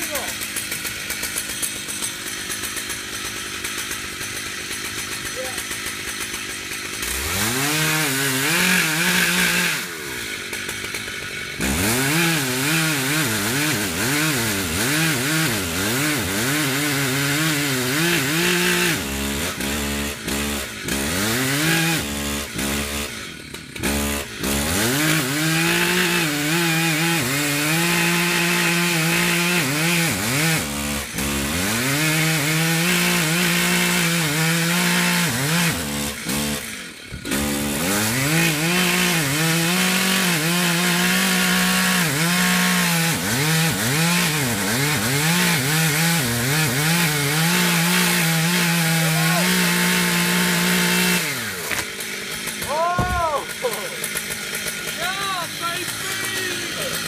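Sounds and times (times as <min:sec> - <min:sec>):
chainsaw engine revving: 0:00.0 - 0:57.0.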